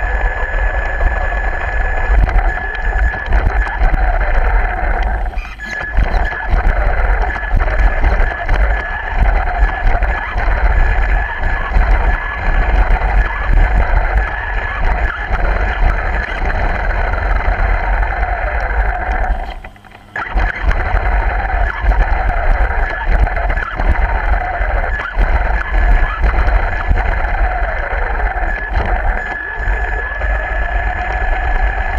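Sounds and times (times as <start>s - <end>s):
radio-controlled car motor whining: 0.0s - 31.9s.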